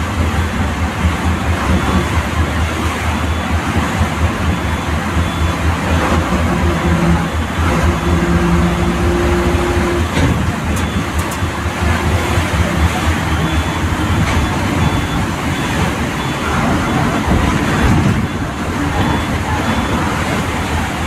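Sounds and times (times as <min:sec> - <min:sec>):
bus diesel engine drone: 0:00.0 - 0:21.0
road noise rushing: 0:00.0 - 0:21.0.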